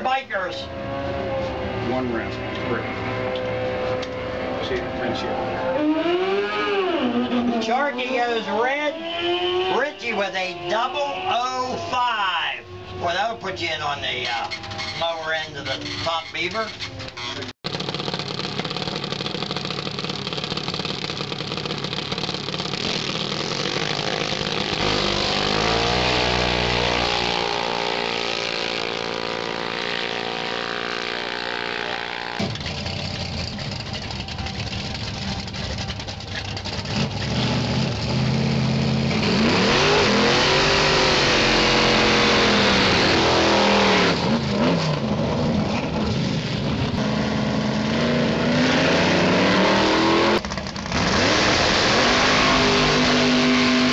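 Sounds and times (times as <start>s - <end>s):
drag racing engines revving: 0.0s - 53.9s.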